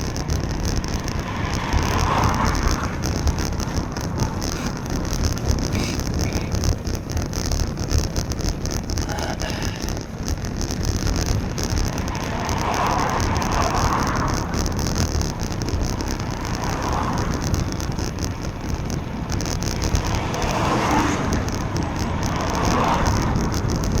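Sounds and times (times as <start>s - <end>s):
cars passing: 0.0s - 24.0s
wind and road noise: 0.0s - 24.0s.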